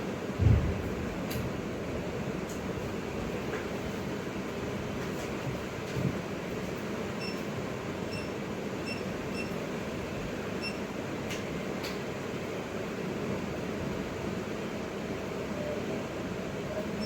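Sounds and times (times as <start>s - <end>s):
fan-like air noise: 0.0s - 17.0s.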